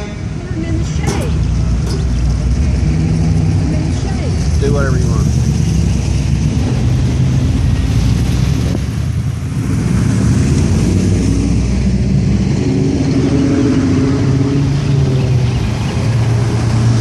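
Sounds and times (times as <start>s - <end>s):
cars driving slowly past: 0.0s - 17.0s.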